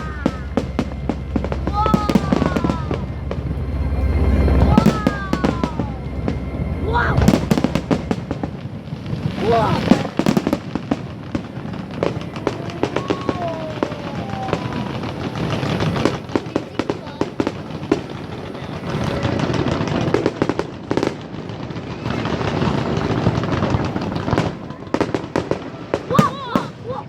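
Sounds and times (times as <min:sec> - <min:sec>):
crowd voices: 0:00.0 - 0:27.0
fireworks bursting: 0:00.0 - 0:27.0.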